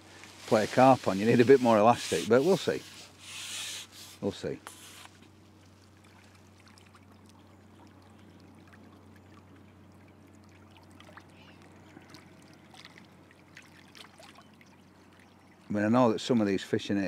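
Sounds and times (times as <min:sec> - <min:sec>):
steady low hum: 0:00.0 - 0:16.8
water lapping and trickling: 0:00.0 - 0:17.0.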